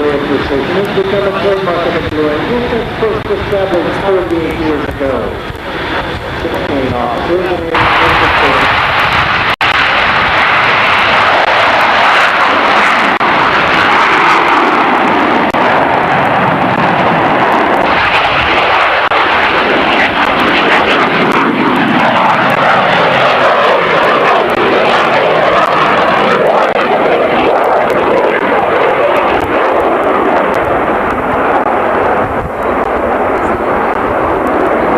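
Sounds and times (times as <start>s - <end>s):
aircraft engine noise: 0.0s - 34.9s.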